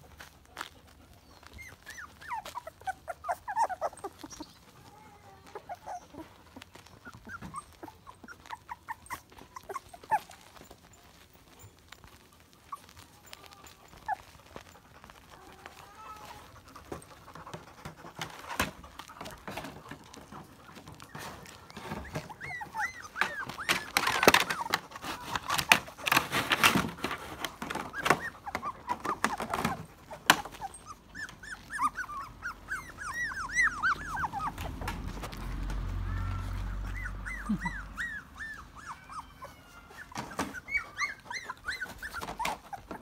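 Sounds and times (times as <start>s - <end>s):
puppies whimpering and squealing: 0.0s - 43.0s.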